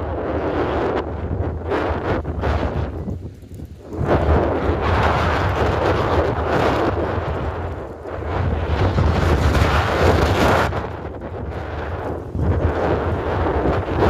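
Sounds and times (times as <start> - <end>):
gusting wind buffeting microphone: 0.0 - 14.0.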